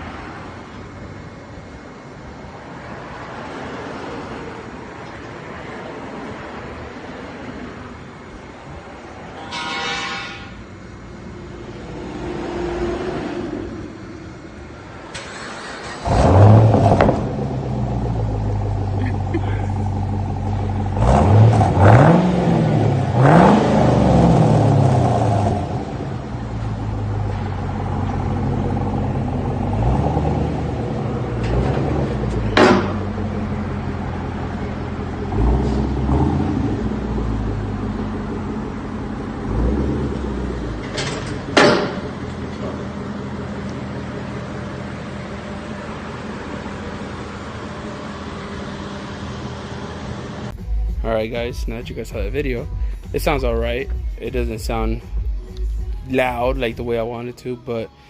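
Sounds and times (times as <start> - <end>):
car engine idling and revving: 0.0 - 58.0
car engine starting: 10.7 - 58.0.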